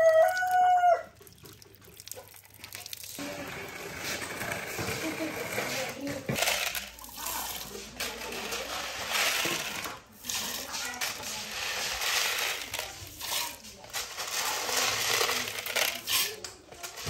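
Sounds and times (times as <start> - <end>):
dry beans poured into water: 0.0 - 17.0.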